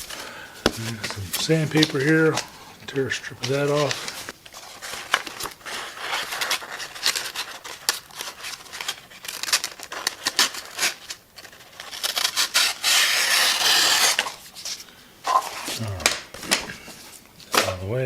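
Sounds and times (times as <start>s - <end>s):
paper rustling and crinkling: 0.0s - 18.0s
sandpaper tearing: 0.8s - 15.9s.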